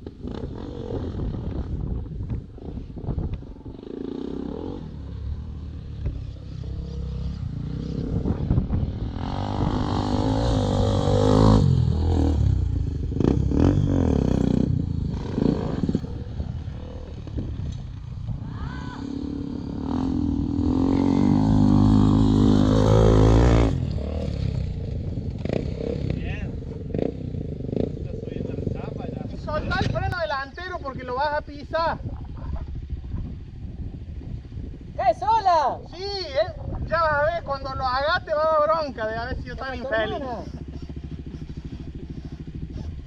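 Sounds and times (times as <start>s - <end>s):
motorcycle engines revving past: 0.0s - 35.0s, 36.0s - 43.0s.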